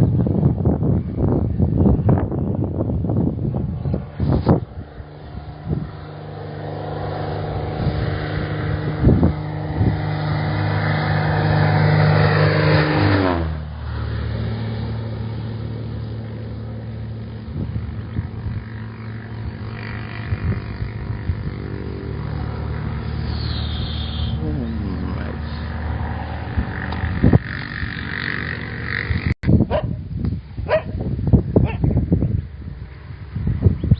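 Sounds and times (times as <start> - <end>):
light aircraft engine running: 0.0 - 33.9.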